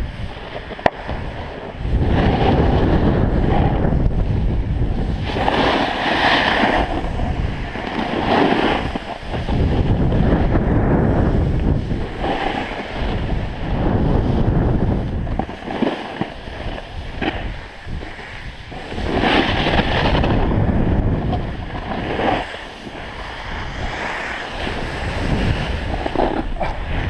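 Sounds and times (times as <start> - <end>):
snowboard scraping over snow: 0.0 - 27.0
wind buffeting microphone: 0.0 - 27.0.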